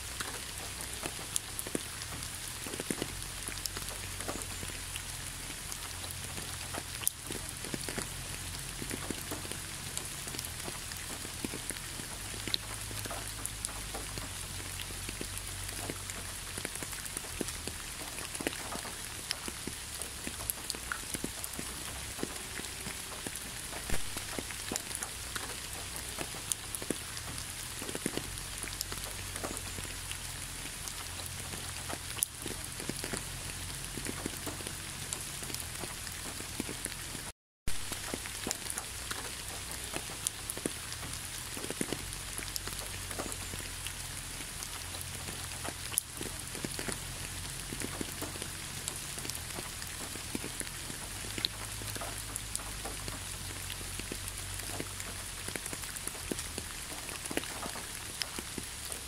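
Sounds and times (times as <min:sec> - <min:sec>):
rain on asphalt road: 0:00.0 - 0:59.0.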